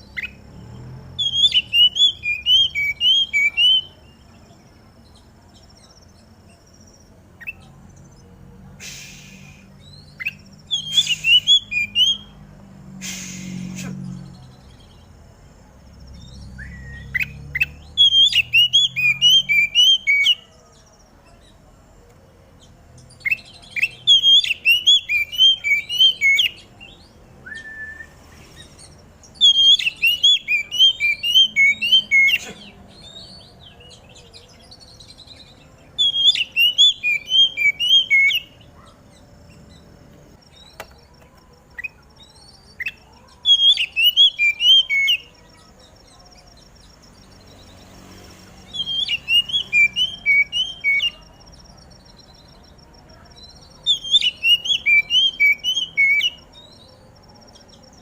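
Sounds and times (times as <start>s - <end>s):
bird singing whistled notes: 0.0s - 8.1s, 8.8s - 12.4s, 15.9s - 20.8s, 22.6s - 48.0s, 48.6s - 58.0s.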